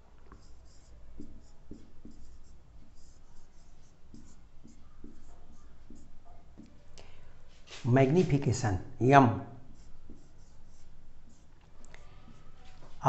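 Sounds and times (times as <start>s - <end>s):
marker squeaking on whiteboard: 0.2s - 8.5s, 9.6s - 13.0s.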